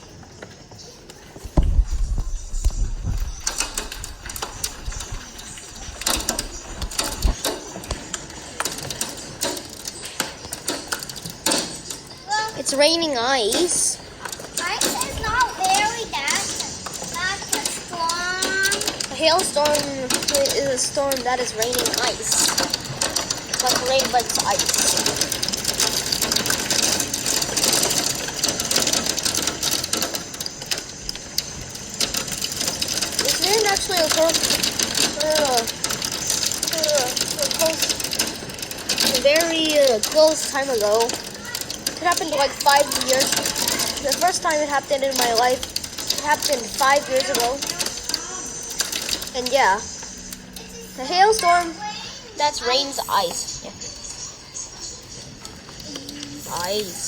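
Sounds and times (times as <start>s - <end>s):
hailstones clattering: 1.5s - 50.0s, 56.4s - 57.0s.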